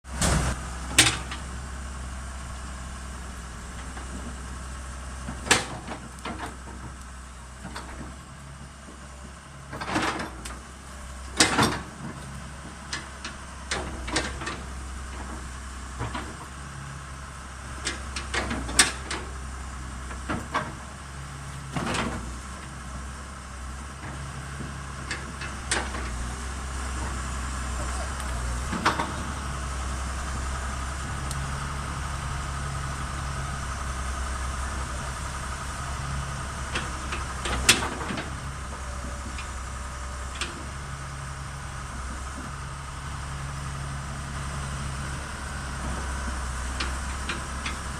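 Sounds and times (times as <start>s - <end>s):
excavator diesel engine idling: 0.1s - 47.9s.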